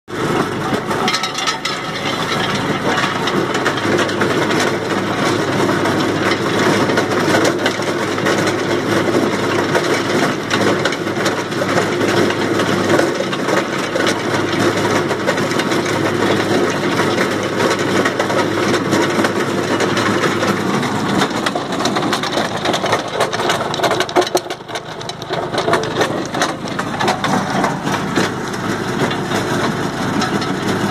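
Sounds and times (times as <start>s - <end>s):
machine hum: 0.1s - 9.5s, 11.0s - 30.9s
nuts and leaves crackling in drum: 0.1s - 30.9s.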